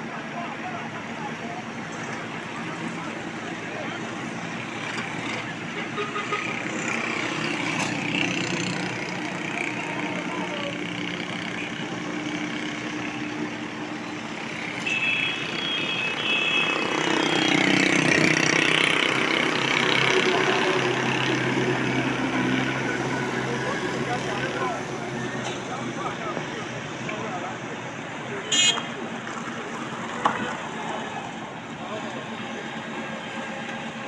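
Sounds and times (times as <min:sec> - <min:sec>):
heavy vehicles passing: 0:00.0 - 0:34.0.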